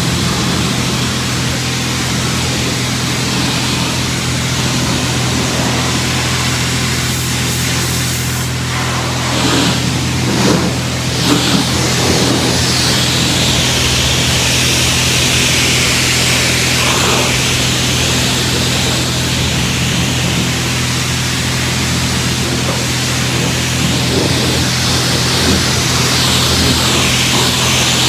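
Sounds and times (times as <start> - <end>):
pressure washer motor hum: 0.0 - 28.0
water spray hissing: 0.0 - 28.0.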